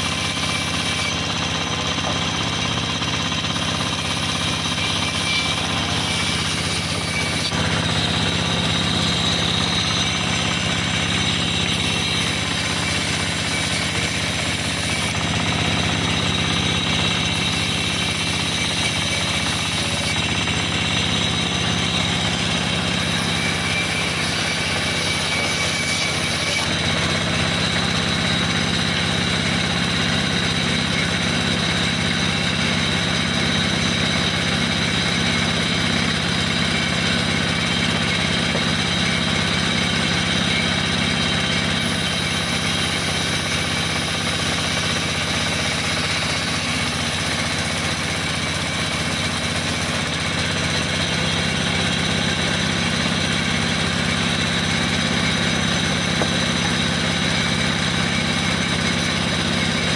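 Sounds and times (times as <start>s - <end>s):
band saw droning: 0.0s - 59.9s.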